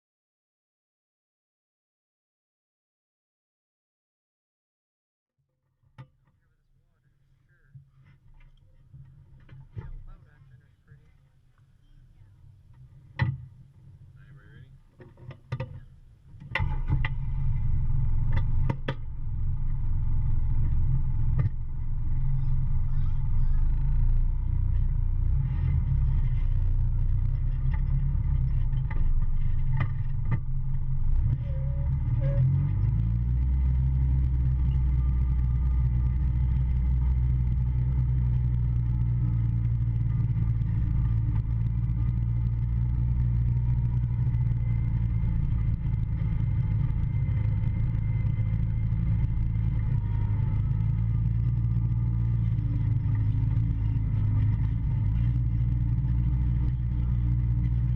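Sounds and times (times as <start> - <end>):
low engine drone: 6.4 - 57.9.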